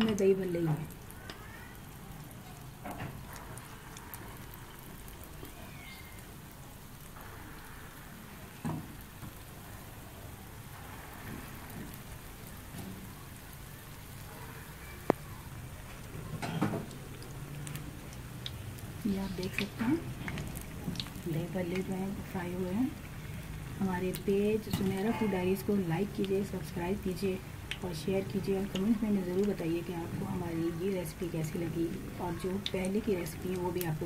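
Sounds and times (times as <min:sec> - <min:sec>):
fritters deep-frying in oil: 0:00.0 - 0:34.0.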